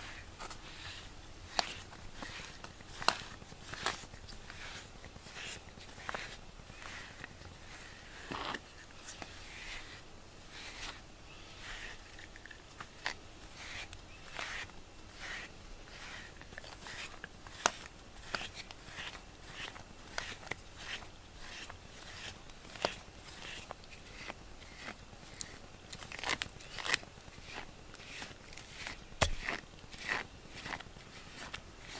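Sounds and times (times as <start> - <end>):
brush stroking cat fur: 0.0 - 25.6.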